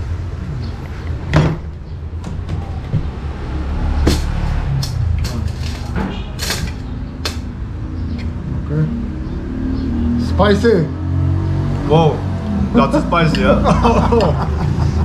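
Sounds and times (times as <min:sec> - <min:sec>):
street traffic engines rumbling: 0:00.0 - 0:15.0.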